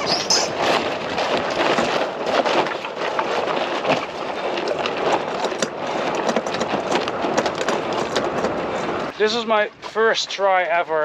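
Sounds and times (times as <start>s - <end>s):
sail flapping in the wind: 0.0s - 11.0s
wind rushing on microphone: 0.0s - 11.0s.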